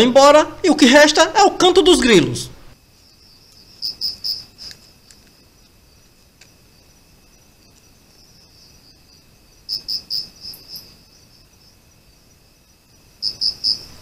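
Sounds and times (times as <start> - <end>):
crickets trilling: 0.0 - 14.0
loud cricket chirps: 0.0 - 14.0.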